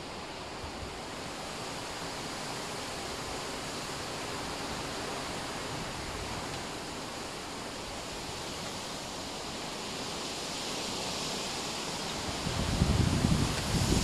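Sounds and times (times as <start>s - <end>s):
wind rushing through trees: 0.0s - 14.0s.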